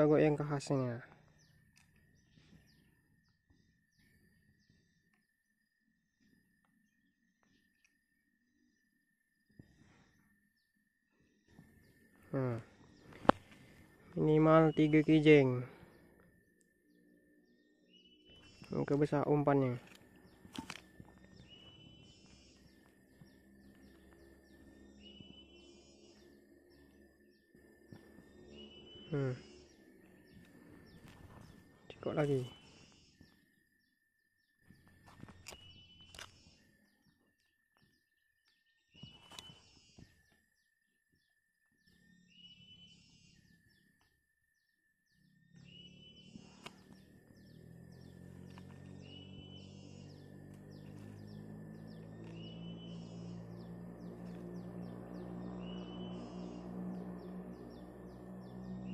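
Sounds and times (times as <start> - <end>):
faint birdsong: 0.0 - 58.9.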